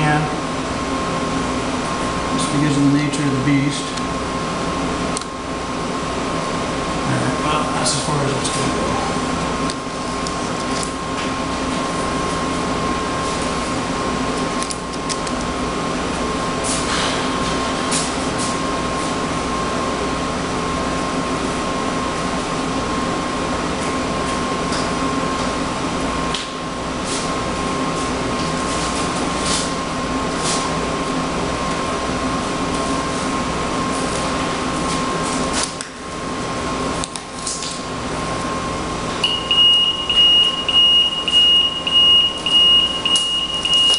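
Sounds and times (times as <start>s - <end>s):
machine drone with high hum: 0.0s - 43.9s.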